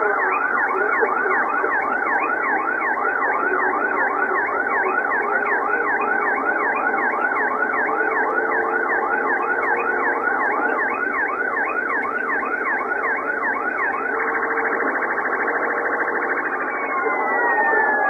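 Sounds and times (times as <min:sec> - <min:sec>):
police siren yelping: 0:00.0 - 0:18.0.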